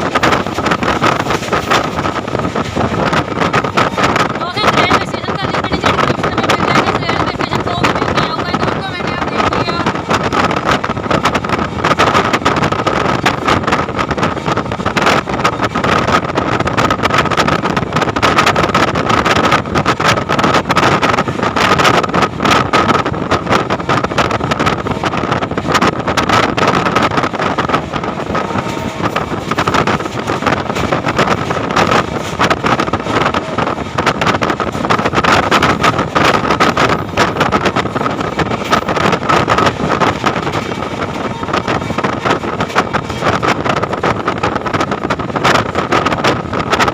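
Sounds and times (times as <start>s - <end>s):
train wheels on track: 0.0s - 46.9s.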